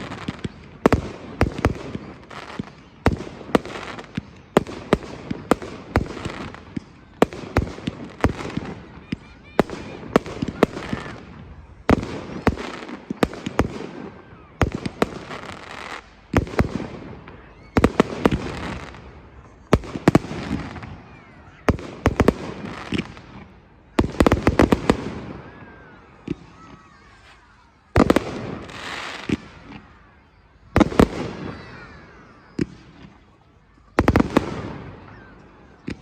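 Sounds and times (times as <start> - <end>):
rumble and echo of fireworks: 0.0 - 36.0.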